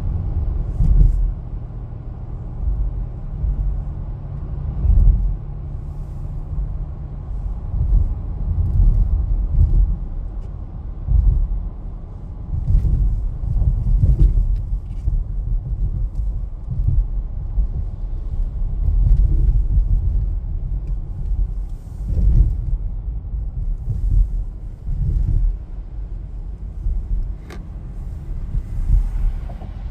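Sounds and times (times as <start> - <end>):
car engine and tyre rumble: 0.0 - 29.9.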